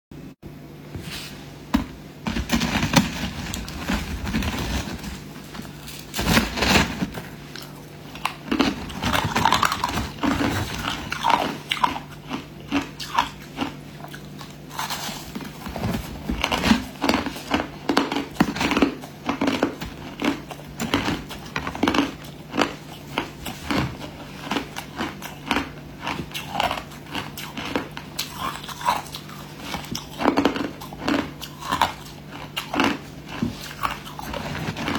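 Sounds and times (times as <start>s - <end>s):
low steady hum: 0.1s - 34.9s
crushed ice being chewed: 2.3s - 34.9s.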